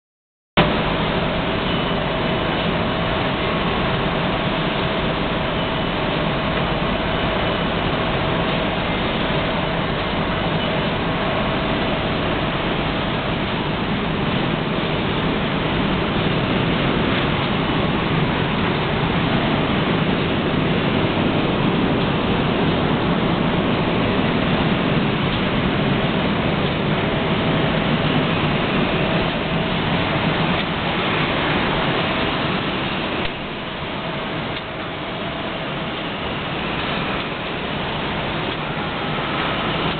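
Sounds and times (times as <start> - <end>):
woodworking machine running: 0.8 - 39.9.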